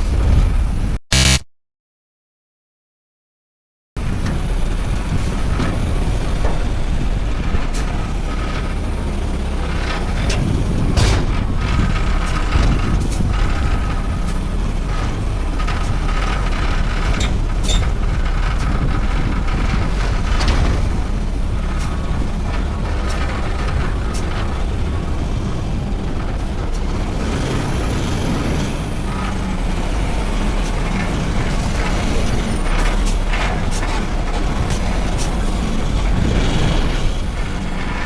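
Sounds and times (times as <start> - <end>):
truck engine rumble: 4.0 - 38.0
clanks and knocks: 4.2 - 38.0.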